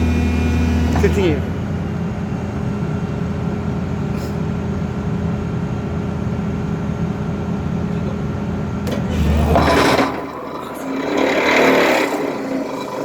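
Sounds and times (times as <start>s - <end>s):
pile driver engine running: 0.0s - 13.0s.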